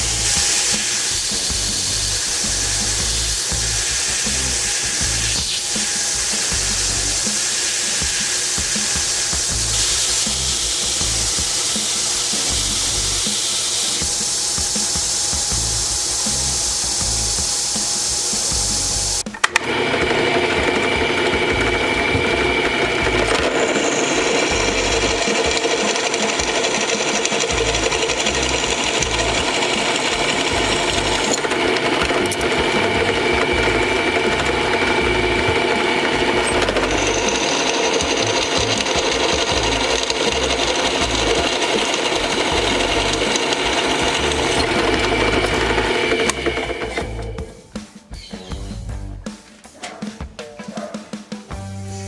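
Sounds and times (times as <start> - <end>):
electric grinder grinding steel: 0.0 - 47.7.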